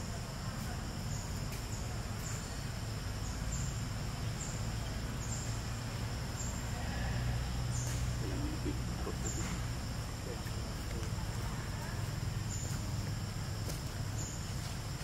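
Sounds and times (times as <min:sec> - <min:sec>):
continuous low rumble: 0:00.0 - 0:15.0
high-pitched insect chorus: 0:00.0 - 0:15.0.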